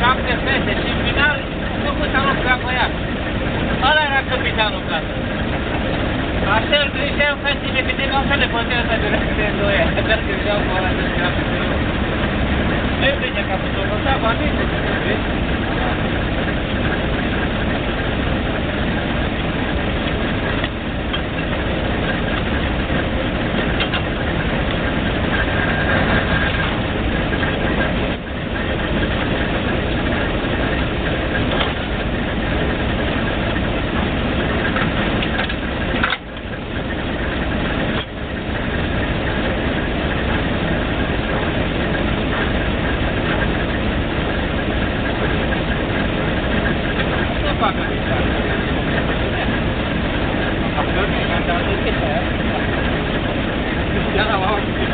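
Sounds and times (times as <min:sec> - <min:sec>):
drilling rig engine droning: 0:00.0 - 0:54.9.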